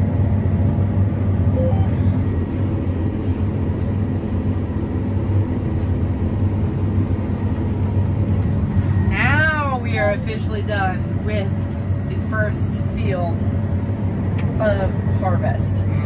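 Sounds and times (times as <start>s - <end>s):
combine harvester humming: 0.0s - 16.0s.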